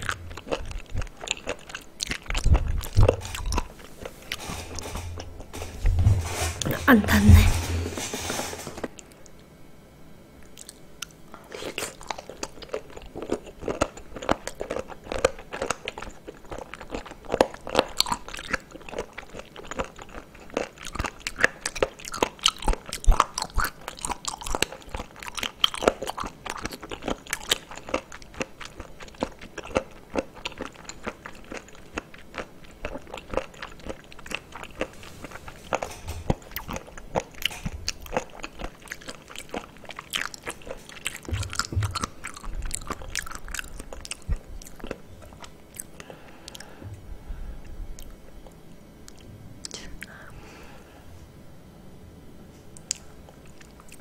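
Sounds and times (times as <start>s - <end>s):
person chewing with mouth clicks: 0.0s - 5.6s, 10.4s - 47.0s, 52.8s - 54.0s.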